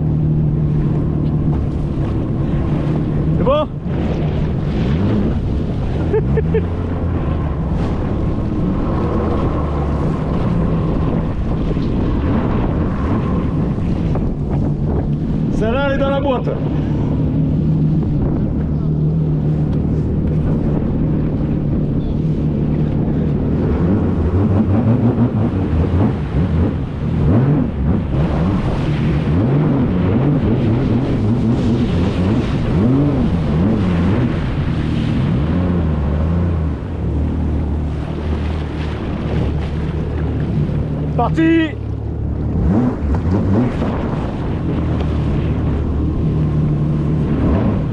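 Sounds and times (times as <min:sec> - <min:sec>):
jet ski engine running: 0:00.0 - 0:47.9
water rushing past: 0:00.0 - 0:47.9
wind buffeting microphone: 0:00.0 - 0:47.9.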